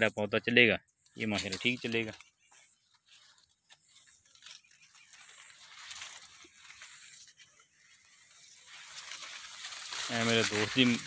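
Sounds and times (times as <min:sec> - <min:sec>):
maize leaves rustling: 0:01.2 - 0:11.0.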